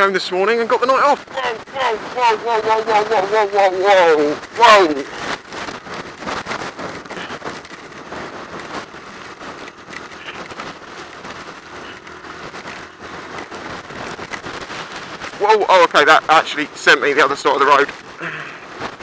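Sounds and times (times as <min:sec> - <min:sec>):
motorcycle riding: 0:00.0 - 0:19.0
wind buffeting microphone: 0:00.4 - 0:19.0.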